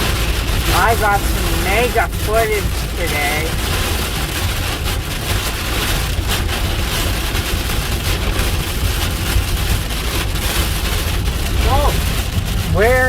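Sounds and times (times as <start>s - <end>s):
heavy rain on vehicle: 0.0s - 13.0s
road and engine rumble: 0.0s - 13.0s.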